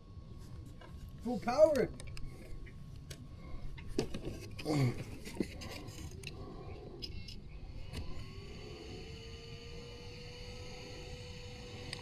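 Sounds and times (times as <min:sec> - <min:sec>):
faint rising whine: 0:00.0 - 0:12.0.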